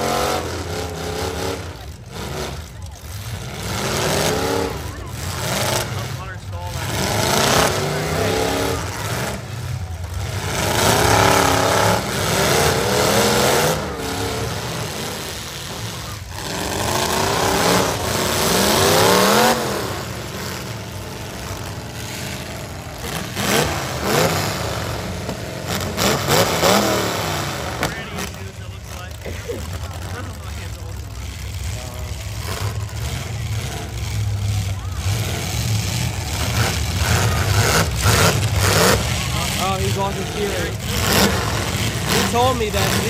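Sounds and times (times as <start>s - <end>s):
truck engines revving hard: 0.0s - 43.0s
trucks ramming each other: 0.0s - 43.0s.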